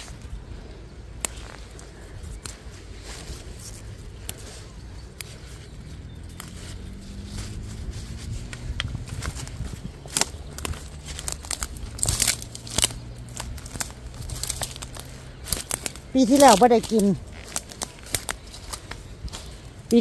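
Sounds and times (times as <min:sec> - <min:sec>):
plant stems snapping and crackling: 0:00.0 - 0:20.0.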